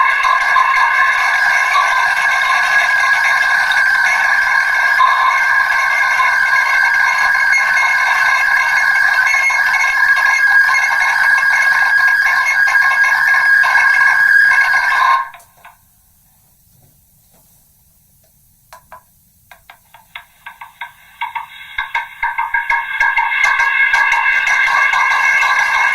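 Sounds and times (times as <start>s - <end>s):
choppy stuttering pulses: 0.0s - 15.4s, 20.1s - 25.9s
megaphone ringing drone: 0.0s - 15.8s, 20.1s - 25.9s.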